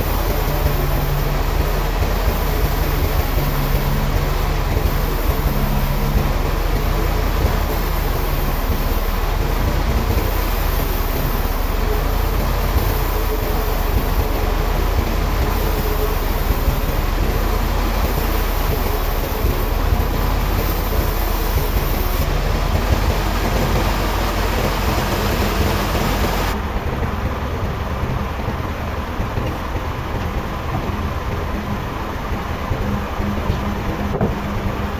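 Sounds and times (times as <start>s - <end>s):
sawmill machinery rumbling: 0.0s - 34.9s.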